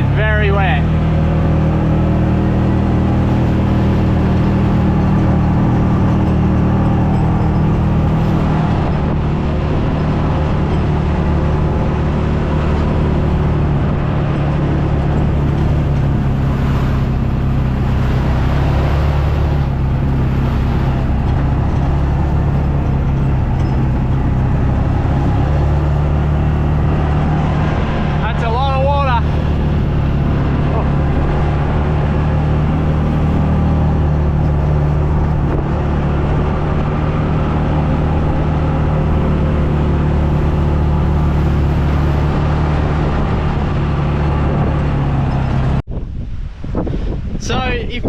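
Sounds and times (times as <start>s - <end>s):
vehicle engine running: 0.0s - 45.9s
road and tyre noise: 0.0s - 48.0s.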